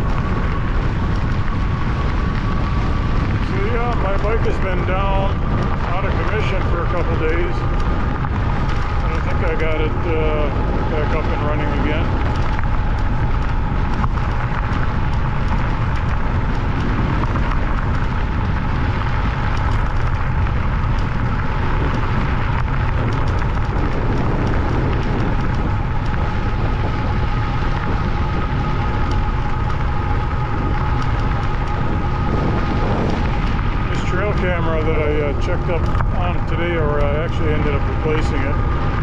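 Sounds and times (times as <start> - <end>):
faint steady whine: 0.0 - 39.0
tyres crackling on gravel: 0.0 - 39.0
wind rumbling on microphone: 0.0 - 39.0.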